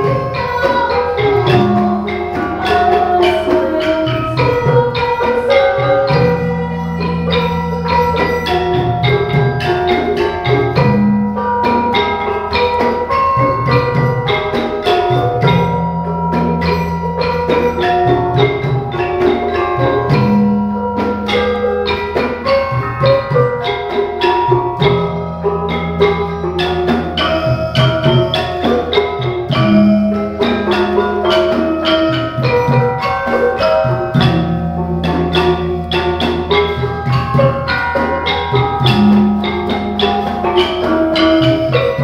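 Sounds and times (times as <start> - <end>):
gamelan ensemble playing: 0.0 - 42.0.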